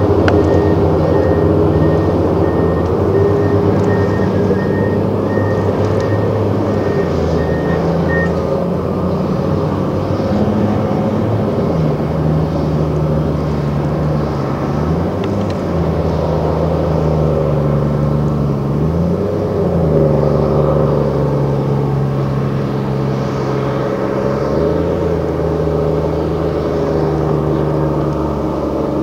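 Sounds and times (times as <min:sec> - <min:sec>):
large diesel engine running: 0:00.0 - 0:29.0.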